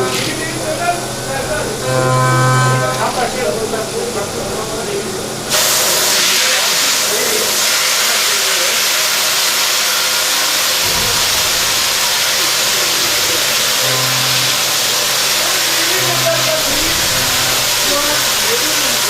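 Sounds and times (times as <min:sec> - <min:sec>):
machine loud steady hiss: 0:00.0 - 0:19.0.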